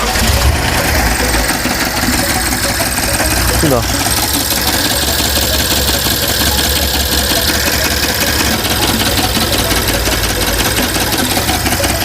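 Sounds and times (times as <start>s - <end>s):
engine running: 0.0s - 12.0s
metallic tapping from engine: 0.0s - 12.0s.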